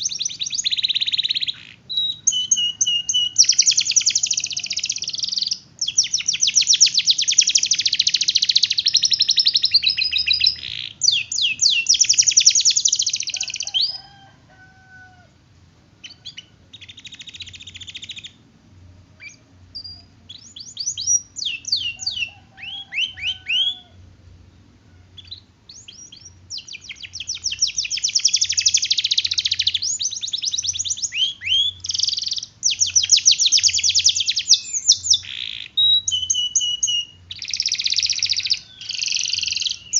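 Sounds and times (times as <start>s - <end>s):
canary singing trills: 0.0s - 15.3s, 15.9s - 39.9s.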